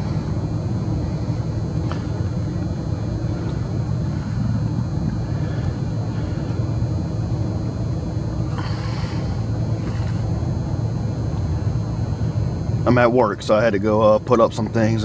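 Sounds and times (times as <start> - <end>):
steady low rumble with hum: 0.0 - 15.0.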